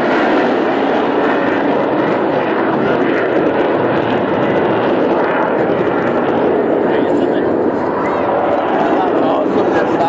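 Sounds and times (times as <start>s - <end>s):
jet engine roar: 0.0s - 10.0s.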